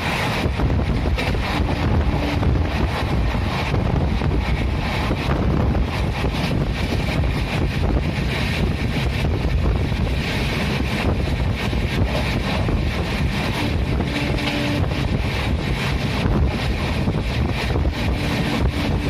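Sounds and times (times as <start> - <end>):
train wheels rumbling on track: 0.0 - 19.0
wind buffeting microphone: 0.0 - 19.0.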